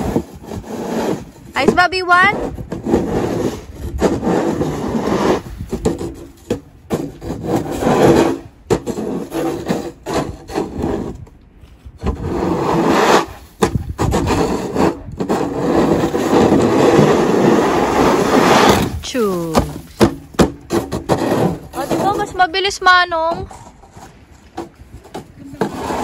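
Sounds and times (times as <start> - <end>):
snow shovel scraping asphalt: 0.0 - 26.0.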